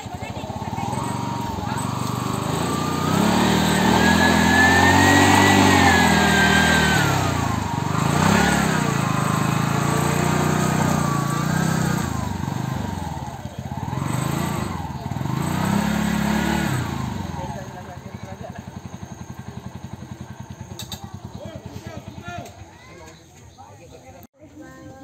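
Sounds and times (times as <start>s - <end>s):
auto-rickshaw engine revving: 0.0s - 23.3s.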